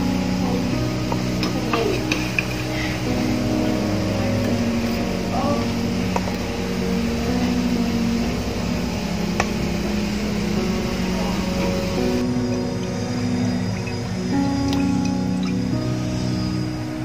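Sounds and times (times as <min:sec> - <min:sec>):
soft sustained chords music: 0:00.0 - 0:17.0.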